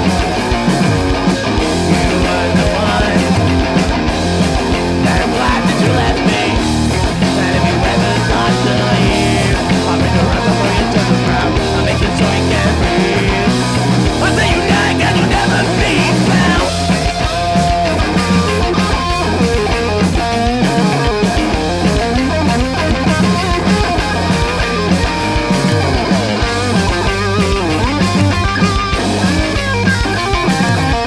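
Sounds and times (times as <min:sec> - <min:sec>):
bass guitar: 0:00.0 - 0:31.0
distorted electric guitar: 0:00.0 - 0:31.0
drum kit: 0:00.0 - 0:31.0
punk rock band playing live: 0:00.0 - 0:31.0.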